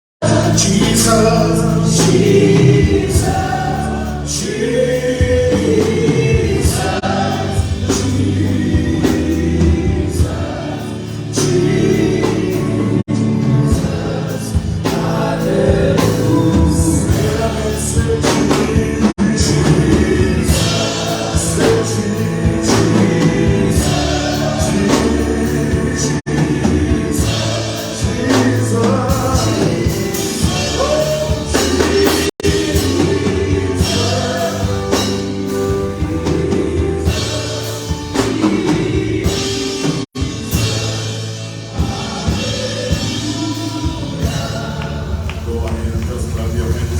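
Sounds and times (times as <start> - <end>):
band playing: 0.2 - 46.9
choir singing gospel: 0.2 - 46.9.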